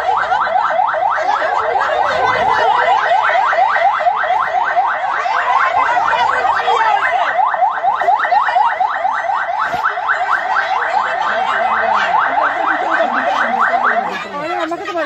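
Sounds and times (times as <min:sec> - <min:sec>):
electronic siren yelping: 0:00.0 - 0:15.0.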